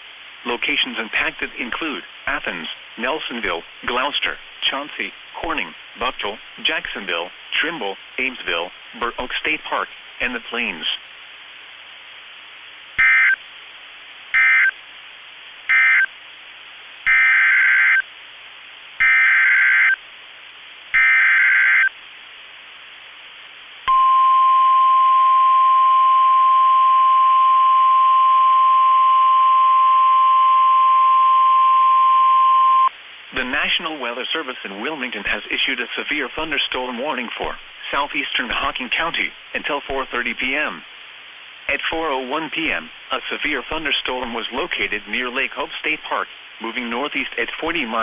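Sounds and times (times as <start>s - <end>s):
faint radio hiss: 0.0s - 48.0s.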